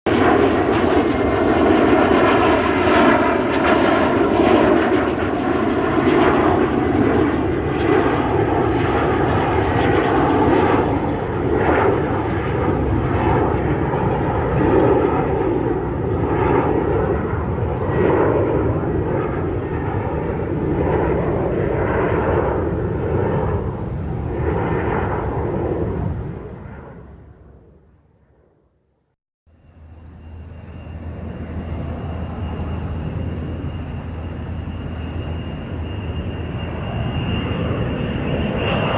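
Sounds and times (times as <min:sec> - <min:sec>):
jet engines rumbling and whining: 0:00.1 - 0:28.9, 0:29.5 - 0:38.9.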